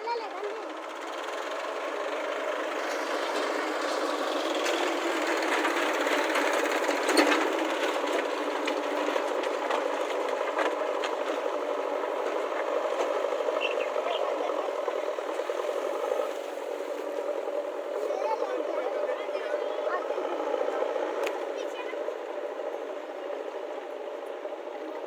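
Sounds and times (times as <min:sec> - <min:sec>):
motor running with rattling: 0:00.0 - 0:25.0.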